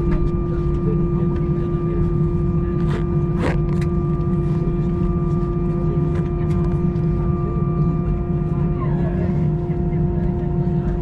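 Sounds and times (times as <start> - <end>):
vehicle interior drone: 0.0 - 11.0.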